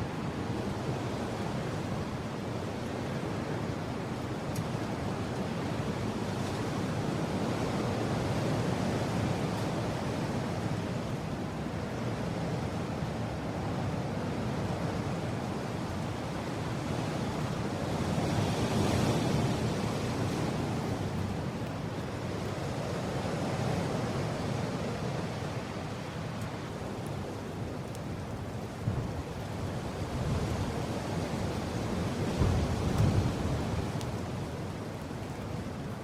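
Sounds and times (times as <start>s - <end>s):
wind blowing in gusts: 0.0s - 36.0s.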